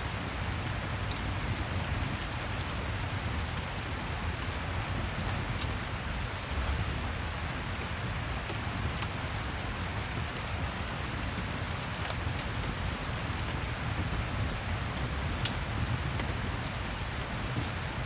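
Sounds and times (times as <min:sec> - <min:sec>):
steady rain: 0:00.0 - 0:18.0
sharp ticks: 0:01.1 - 0:10.1, 0:11.0 - 0:18.0.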